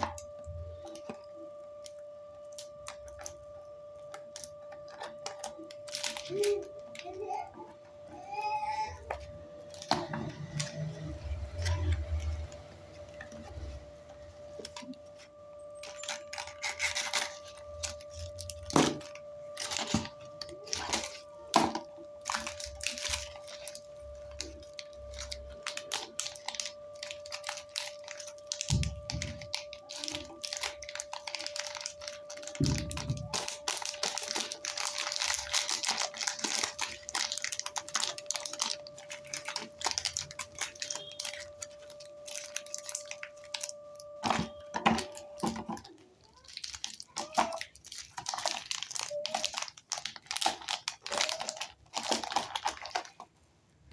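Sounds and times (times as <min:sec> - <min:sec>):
packaging tearing and crinkling: 0:04.0 - 0:07.5, 0:08.2 - 0:13.8, 0:14.5 - 0:53.4.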